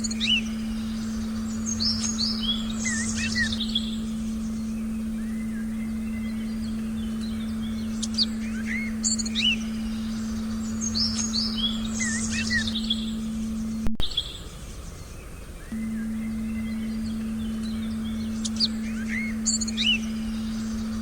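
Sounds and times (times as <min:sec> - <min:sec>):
low meditation tone: 0:00.0 - 0:21.0
small birds chirping: 0:00.0 - 0:21.0.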